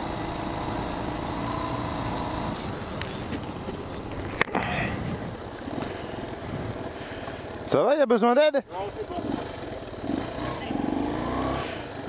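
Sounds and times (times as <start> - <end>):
motorcycle engine low revs: 0.0 - 7.7, 8.7 - 12.0
wind and road noise: 0.0 - 12.0.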